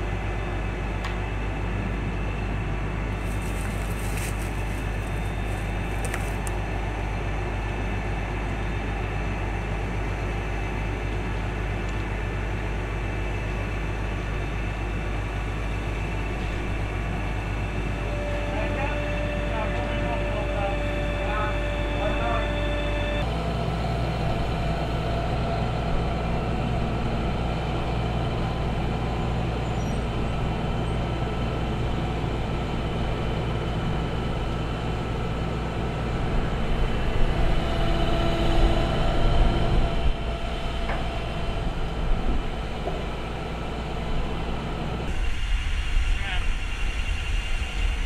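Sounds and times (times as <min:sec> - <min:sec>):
crane diesel engine running: 0:00.0 - 0:48.0.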